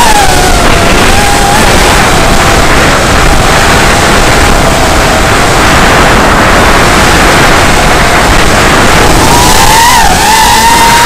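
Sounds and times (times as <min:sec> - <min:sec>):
quadcopter motors rushing: 0:00.0 - 0:11.0.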